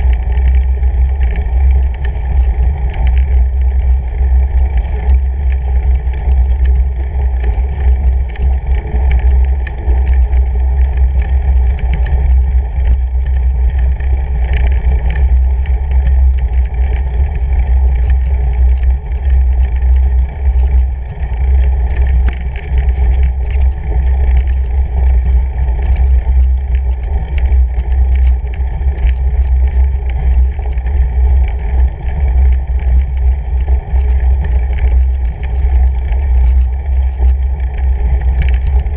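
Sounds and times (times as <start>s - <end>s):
bike rumbling on snow: 0.0s - 38.9s.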